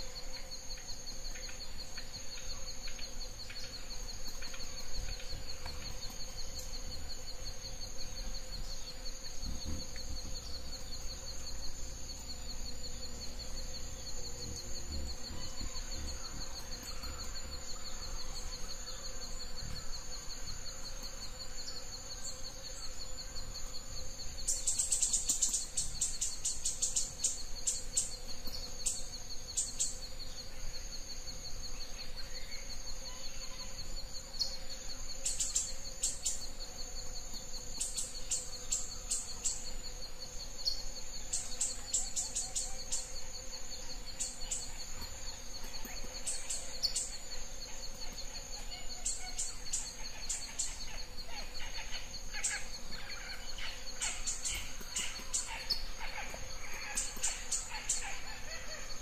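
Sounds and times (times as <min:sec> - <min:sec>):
insects trilling: 0:00.0 - 0:59.0
rapid high insect chirps: 0:00.0 - 0:59.0.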